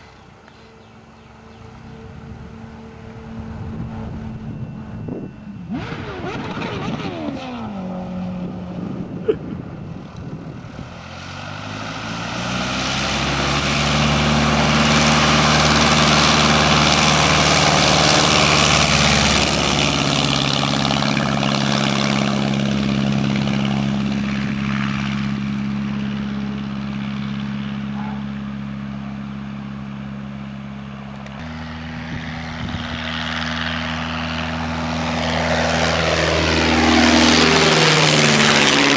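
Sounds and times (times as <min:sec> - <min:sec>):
light airplane engine and propeller: 0:00.0 - 0:38.9.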